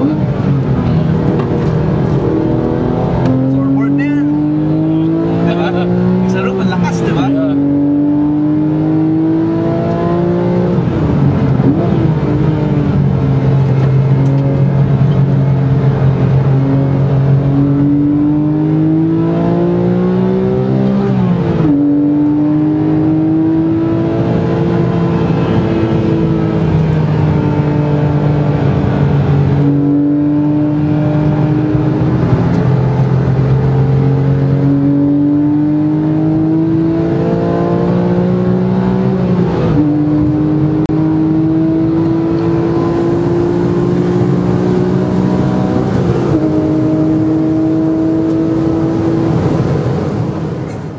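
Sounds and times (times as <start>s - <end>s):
car engine revving from cabin: 0.0s - 50.8s.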